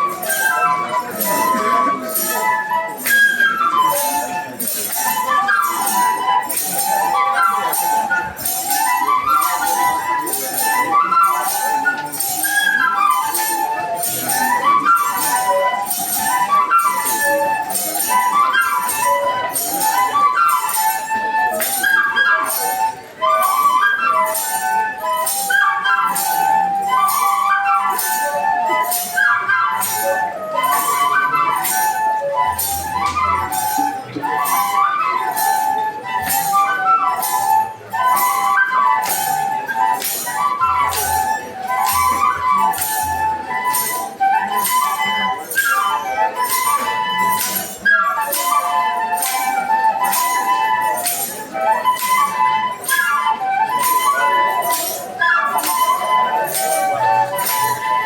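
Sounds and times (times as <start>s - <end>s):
flute playing quick melody: 0.0s - 58.0s
metal jingles beat: 0.1s - 58.0s.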